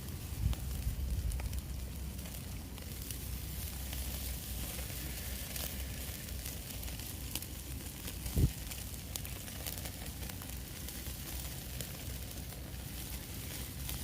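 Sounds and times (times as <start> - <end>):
meat sizzling over campfire: 0.0 - 14.0.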